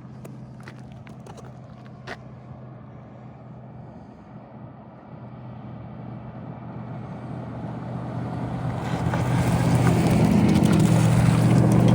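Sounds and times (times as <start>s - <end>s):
vehicle engine drone: 0.0s - 11.9s.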